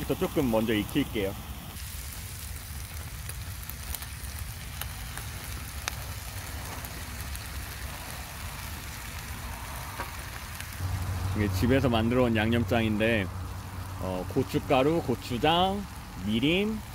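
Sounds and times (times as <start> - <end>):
camp stove burner rumble: 0.0 - 16.9
meat sizzling in a skillet: 0.0 - 16.9.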